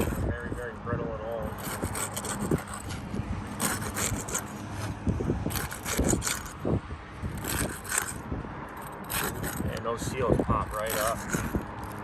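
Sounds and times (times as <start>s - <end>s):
shingles scraping and crackling: 0.0s - 12.0s.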